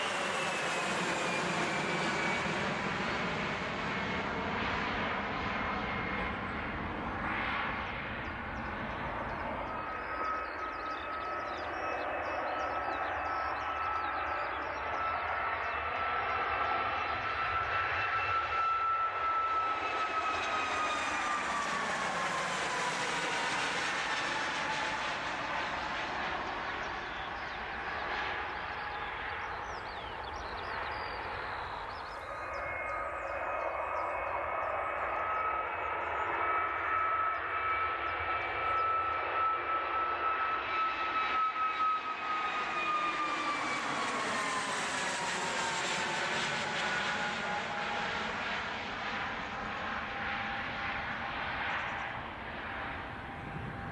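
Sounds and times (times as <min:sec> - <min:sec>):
airplane engine whine passing: 0:00.0 - 0:53.9.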